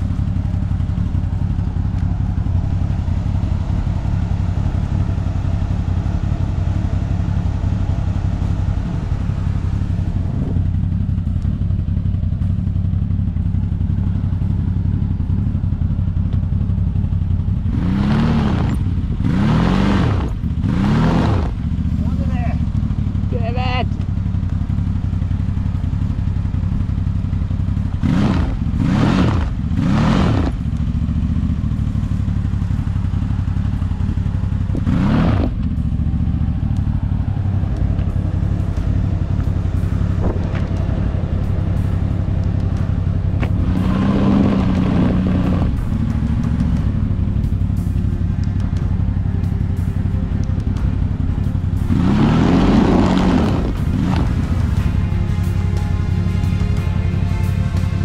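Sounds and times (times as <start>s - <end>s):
engine labouring and revving: 0.0s - 58.0s.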